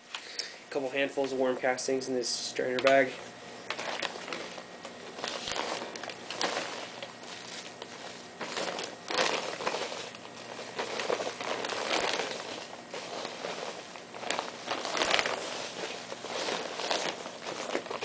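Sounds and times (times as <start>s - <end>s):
plastic sack crinkling: 2.6s - 18.0s.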